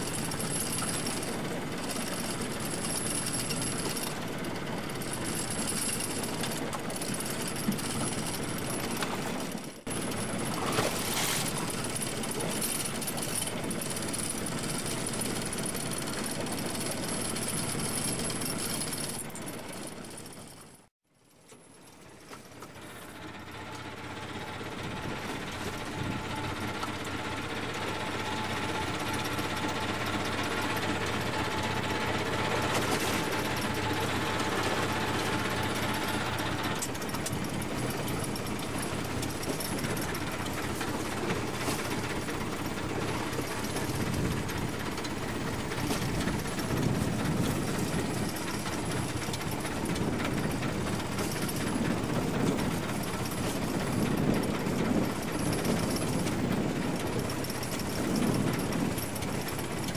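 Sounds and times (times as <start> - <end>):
boat engine clattering: 0.0 - 59.9.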